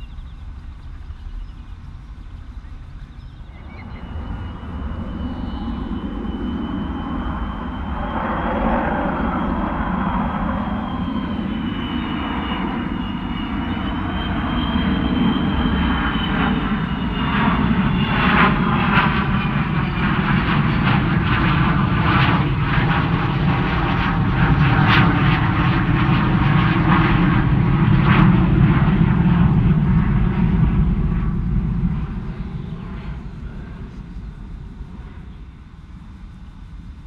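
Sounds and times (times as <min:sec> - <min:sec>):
high wavering whine: 0:00.0 - 0:37.0
jet engines roaring: 0:00.0 - 0:37.0.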